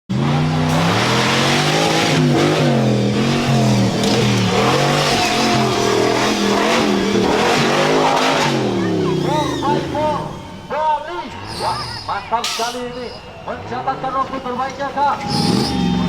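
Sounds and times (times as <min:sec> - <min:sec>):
race car engine revving: 0:00.1 - 0:12.4, 0:13.0 - 0:16.0.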